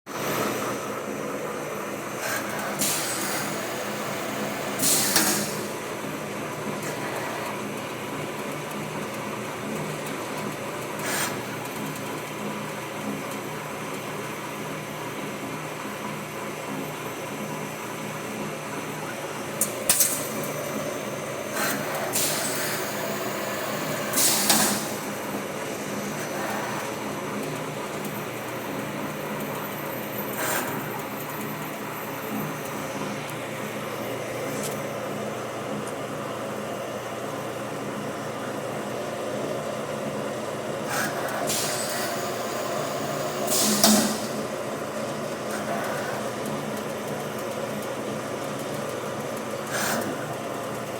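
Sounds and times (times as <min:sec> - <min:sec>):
lathe mechanical hum: 0:00.1 - 0:50.9.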